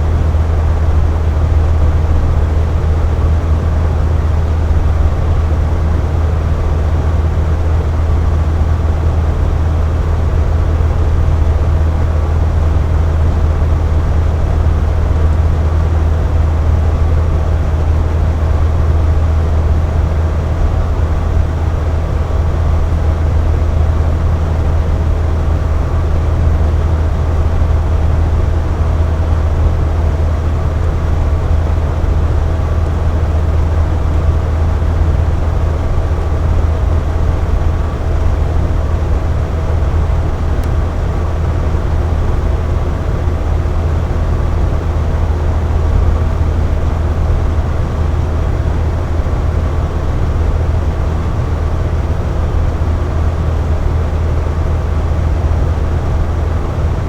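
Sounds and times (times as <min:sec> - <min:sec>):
box fan humming: 0:00.0 - 0:57.0.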